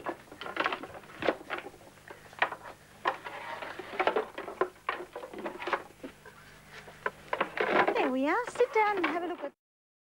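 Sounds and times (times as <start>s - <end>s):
wooden sticks knocking and clattering: 0.0s - 6.2s, 7.0s - 9.5s.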